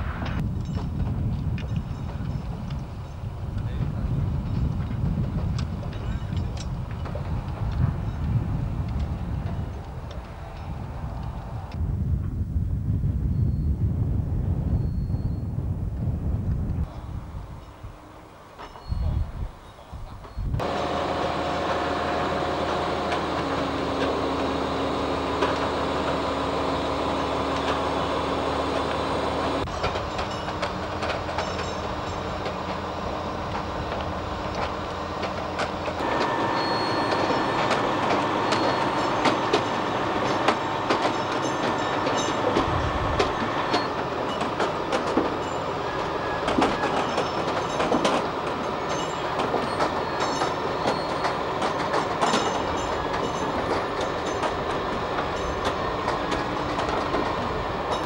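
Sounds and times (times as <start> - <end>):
diesel locomotive engine drone: 0.0 - 58.0
wheels clicking over rail joints: 0.3 - 11.8, 16.5 - 58.0.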